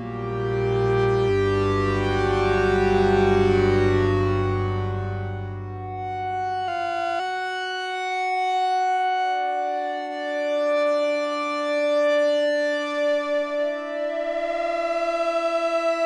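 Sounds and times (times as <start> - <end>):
synthesizer sustained chords: 0.0 - 16.0.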